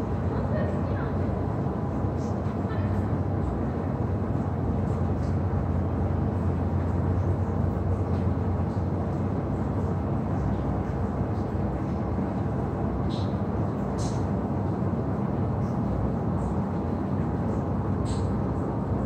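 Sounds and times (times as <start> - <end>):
jet airliners rumbling: 0.0 - 19.0.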